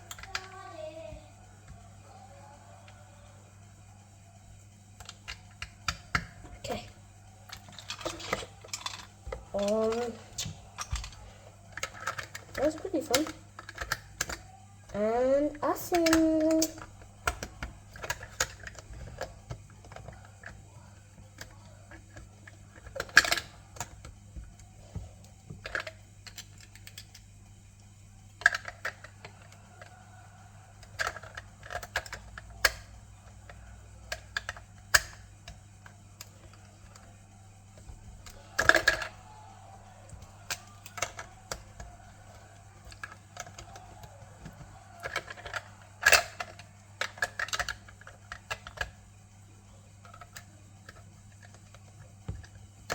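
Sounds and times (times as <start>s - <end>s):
plastic bricks clicking: 0.0s - 0.9s, 4.9s - 52.9s.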